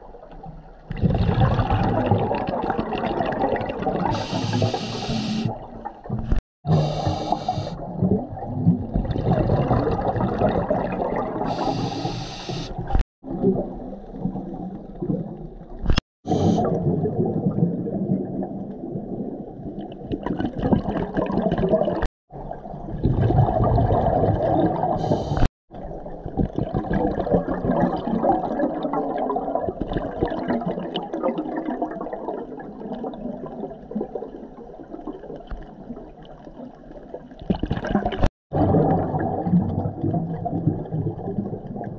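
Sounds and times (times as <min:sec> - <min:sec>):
underwater rushing and gurgling: 0:00.0 - 0:41.9.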